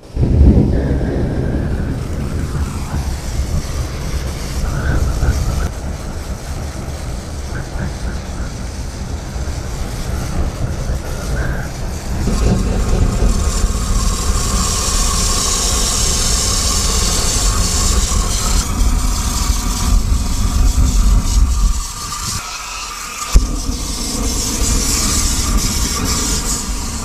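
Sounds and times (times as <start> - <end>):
gas burner rushing hiss: 0.0 - 27.0.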